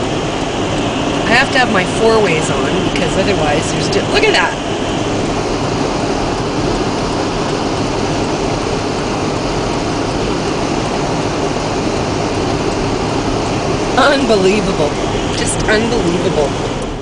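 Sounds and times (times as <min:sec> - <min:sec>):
road noise: 0:00.0 - 0:17.0
wind howling around car: 0:00.0 - 0:17.0.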